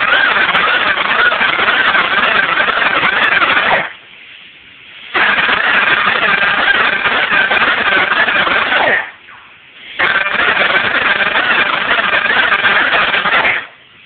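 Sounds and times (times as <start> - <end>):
power drill spinning cylinder hone: 0.0 - 4.0, 5.2 - 9.1, 10.0 - 13.7.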